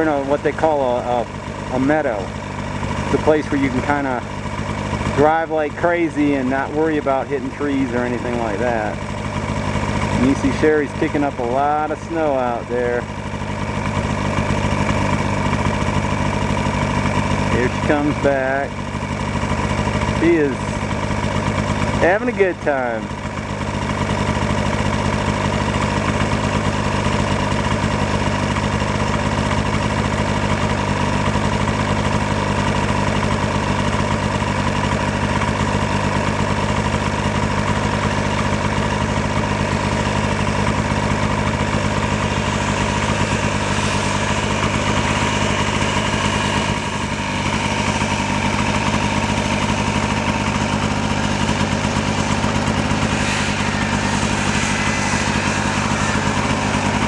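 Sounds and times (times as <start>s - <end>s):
snowmobile engine idling: 0.0s - 57.0s.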